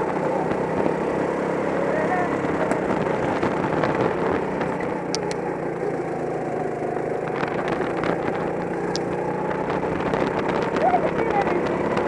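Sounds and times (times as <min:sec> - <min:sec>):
go-kart engine running: 0:00.0 - 0:12.0
road noise: 0:00.0 - 0:12.0.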